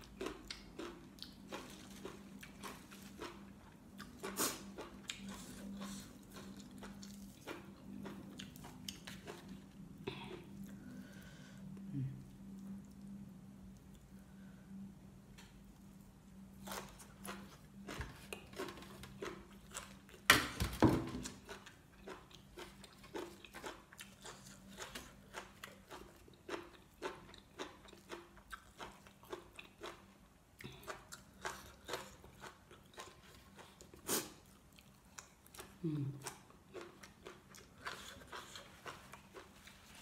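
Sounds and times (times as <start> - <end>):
person chewing: 0.0 - 13.1, 15.8 - 20.3, 21.1 - 40.0.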